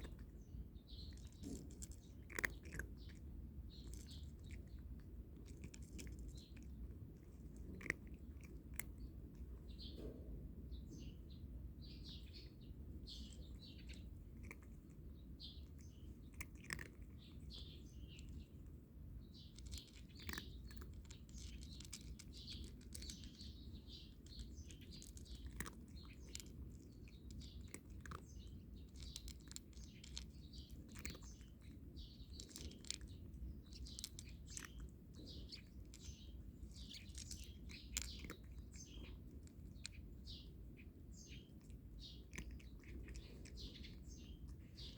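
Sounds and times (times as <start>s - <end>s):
cat crunching dry kibble: 0.0s - 9.7s, 12.8s - 44.9s
small birds chirping: 0.0s - 44.9s.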